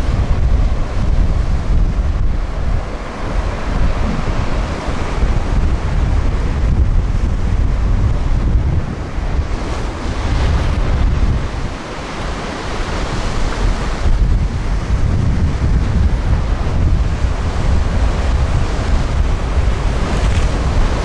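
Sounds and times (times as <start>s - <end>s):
surf washing over rocks: 0.0s - 21.0s
wind buffeting microphone: 0.0s - 21.0s.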